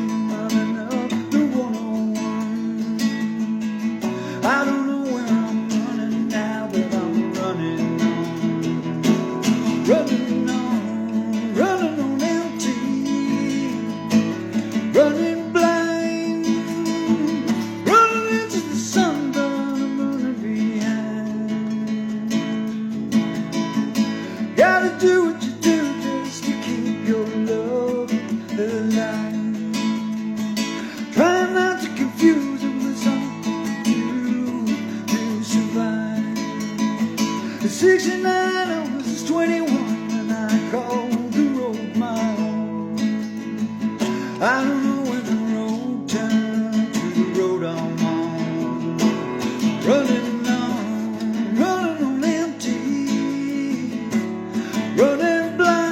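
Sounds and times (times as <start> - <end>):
acoustic guitar strumming: 0.0 - 55.9.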